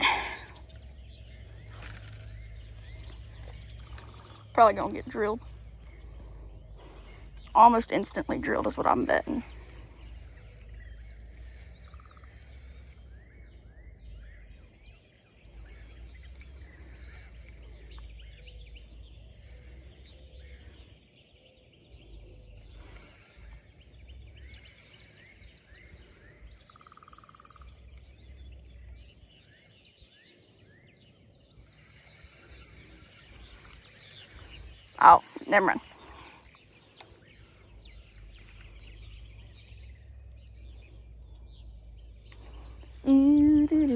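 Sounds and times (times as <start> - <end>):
bird trills: 0.0 - 43.9
small birds chirping: 0.0 - 43.9.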